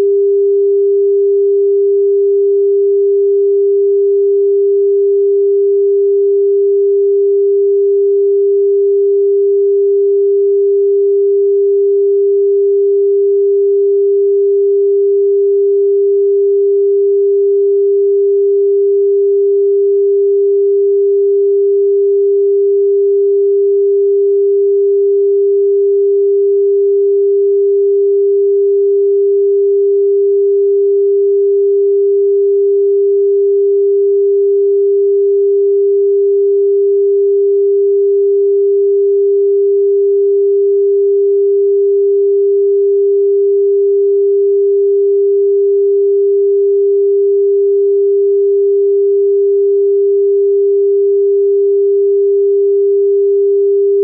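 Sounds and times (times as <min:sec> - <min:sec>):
steady sine tone: 0:00.0 - 0:54.0.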